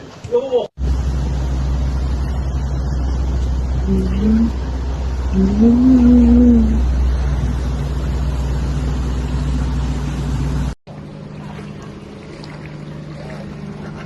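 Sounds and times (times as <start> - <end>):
engine hum: 0.8 - 14.0
heavy low rumble: 0.8 - 14.0.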